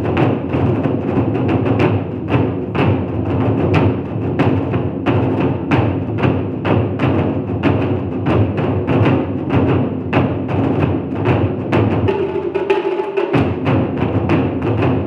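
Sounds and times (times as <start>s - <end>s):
taiko drums beating: 0.0s - 15.0s.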